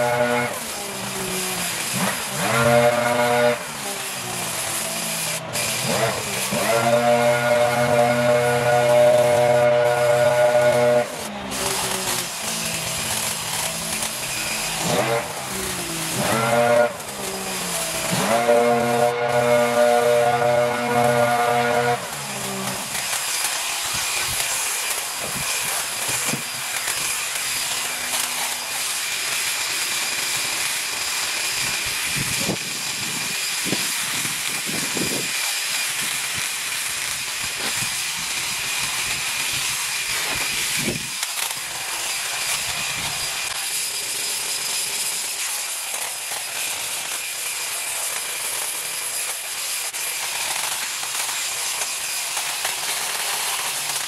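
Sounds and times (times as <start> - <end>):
motorized yard tool whining: 0.0 - 54.0.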